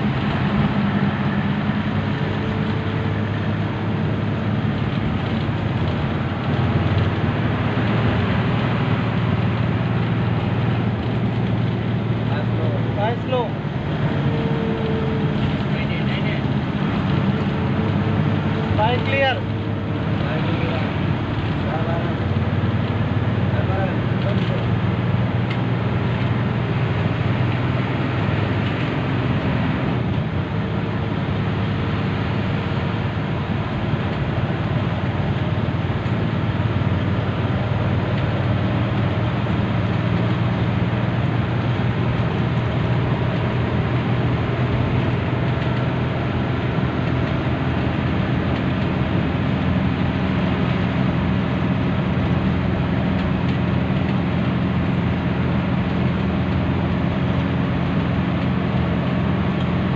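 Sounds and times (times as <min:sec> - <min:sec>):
bus diesel engine running: 0:00.0 - 0:59.9
tyre and road noise: 0:00.0 - 0:59.9.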